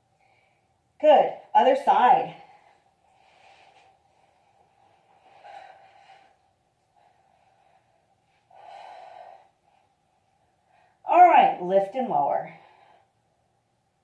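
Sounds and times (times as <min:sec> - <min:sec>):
woman breathing: 0:00.0 - 0:01.0, 0:02.2 - 0:11.1, 0:12.4 - 0:14.0.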